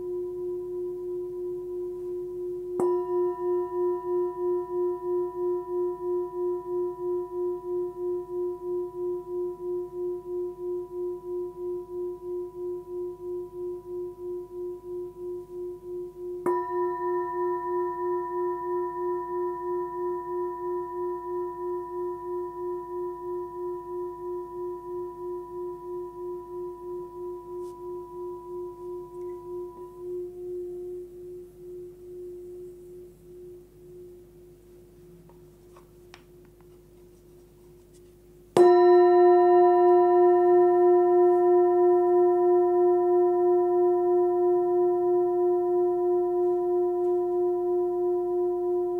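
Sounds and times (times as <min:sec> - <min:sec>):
singing bowl ringing: 0:00.0 - 0:35.5, 0:38.6 - 0:48.9.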